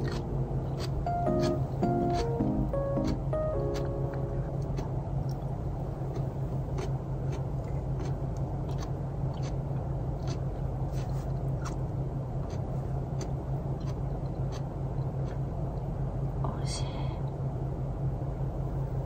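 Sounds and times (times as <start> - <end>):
vehicle cabin hum and rumble: 0.0 - 19.0.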